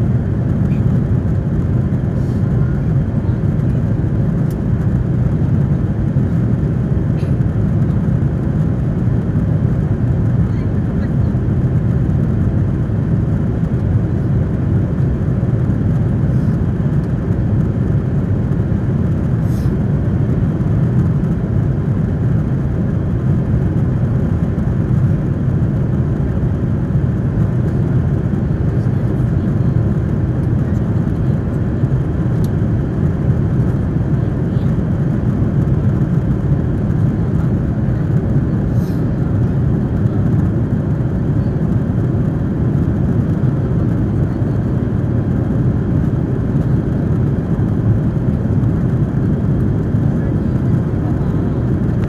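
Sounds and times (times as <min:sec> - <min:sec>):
jet engine drone in cabin: 0:00.0 - 0:52.0.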